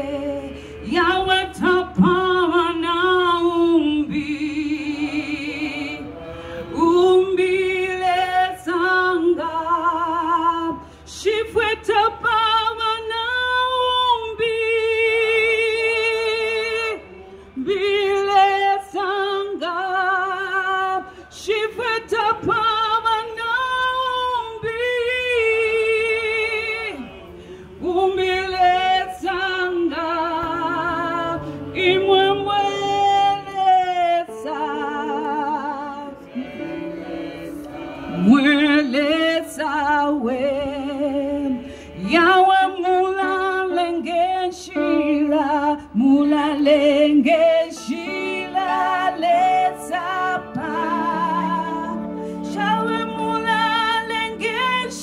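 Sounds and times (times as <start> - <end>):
woman singing gospel song: 0.0 - 36.7, 38.0 - 55.0.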